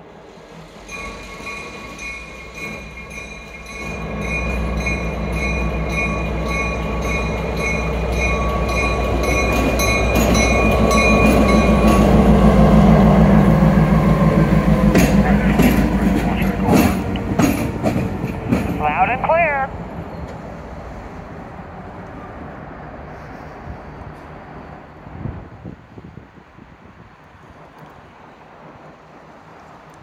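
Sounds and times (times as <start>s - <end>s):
diesel locomotive engine rumbling: 0.0s - 30.0s.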